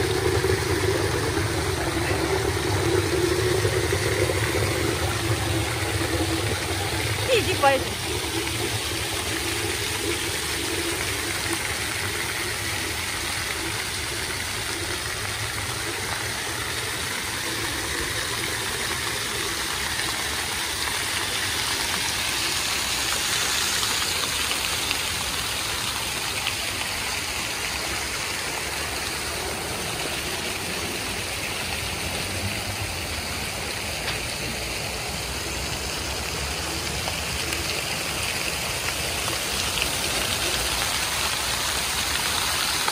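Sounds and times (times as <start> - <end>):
fountain jets splashing on paving: 0.0 - 42.9.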